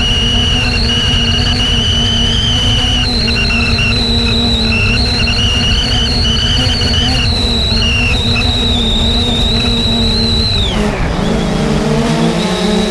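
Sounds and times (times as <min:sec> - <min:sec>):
drone motors whining: 0:00.0 - 0:12.9
wind and air noise: 0:00.0 - 0:12.9.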